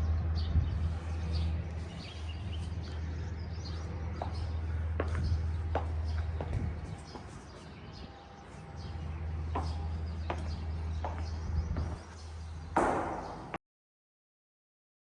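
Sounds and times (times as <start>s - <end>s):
steady low rumble: 0.0s - 13.6s.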